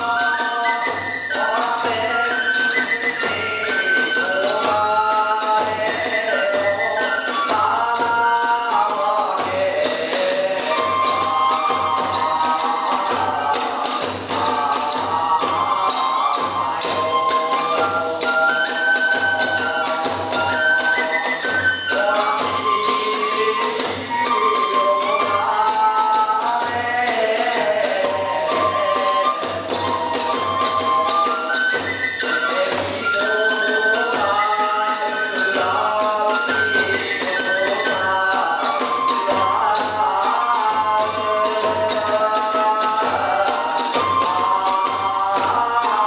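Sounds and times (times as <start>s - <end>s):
transverse flute melody: 0.0s - 9.4s, 10.1s - 46.0s.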